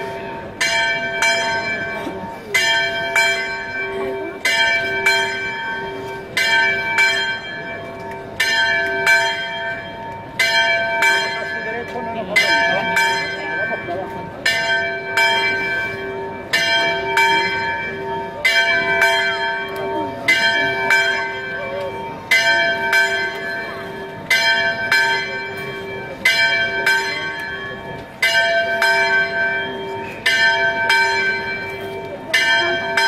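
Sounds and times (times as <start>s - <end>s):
church bell tolling: 0.0s - 33.0s.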